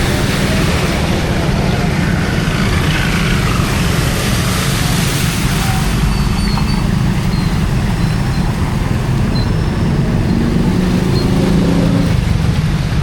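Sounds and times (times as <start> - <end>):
engine hum: 0.0 - 13.0
traffic rumble: 0.0 - 13.0.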